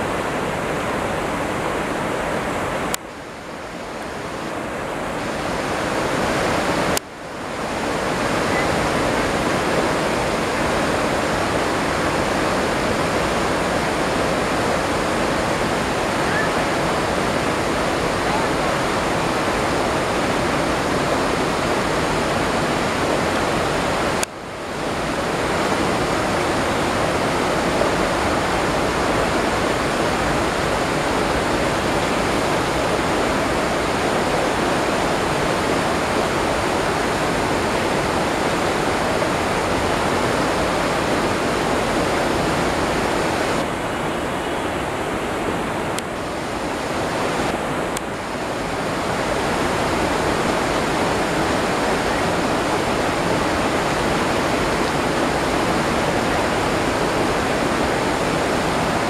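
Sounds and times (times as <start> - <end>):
waterfall and river rushing: 0.0 - 59.0.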